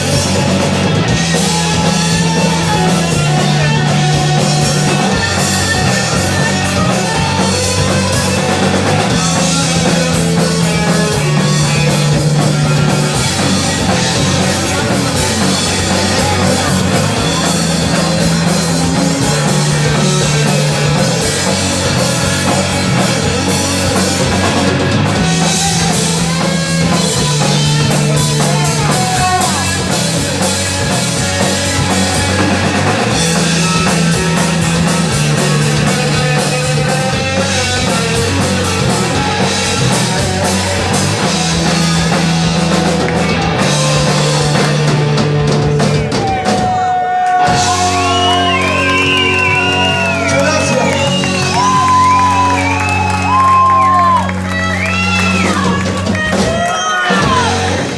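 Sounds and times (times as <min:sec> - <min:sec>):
rock band playing: 0:00.0 - 0:57.9.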